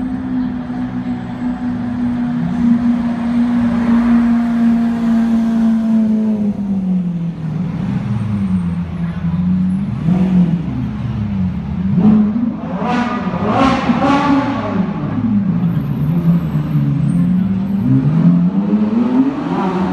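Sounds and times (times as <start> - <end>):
car engine drone: 0.0 - 19.9.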